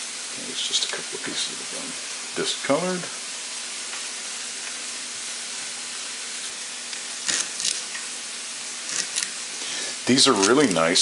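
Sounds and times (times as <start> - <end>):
steaks sizzling in oil: 0.0 - 11.0.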